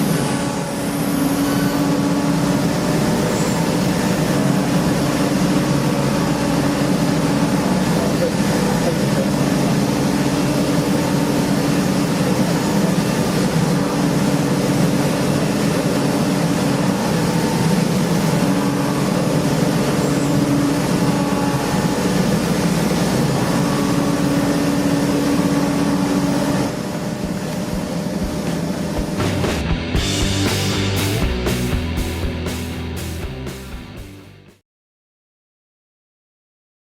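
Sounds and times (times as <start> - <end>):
machining centre running: 0.0 - 34.5.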